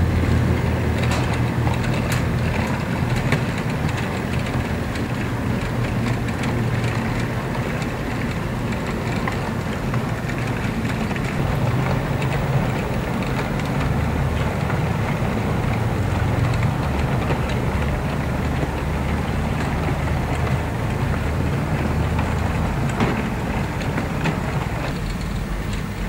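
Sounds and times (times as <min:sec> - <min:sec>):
model train wheels rumbling on rails: 0:00.0 - 0:26.0.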